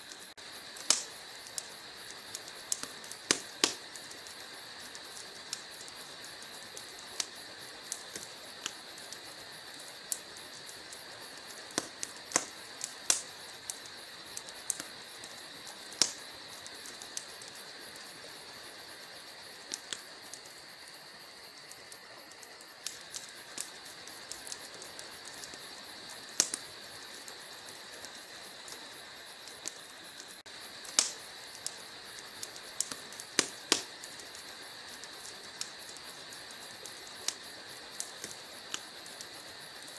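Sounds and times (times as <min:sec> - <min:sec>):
fire hissing: 0:00.0 - 0:39.9
logs crackling in fireplace: 0:00.0 - 0:39.9.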